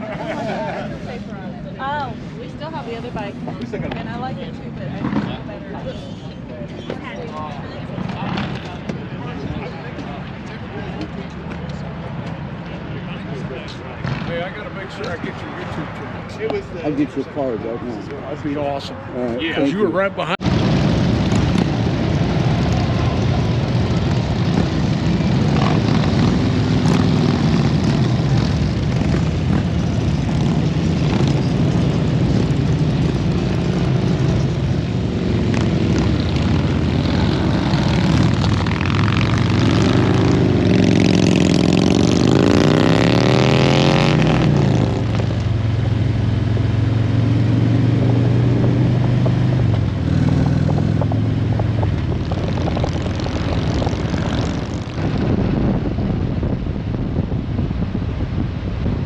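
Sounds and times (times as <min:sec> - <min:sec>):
motorcycle engines running: 0:00.0 - 0:59.0.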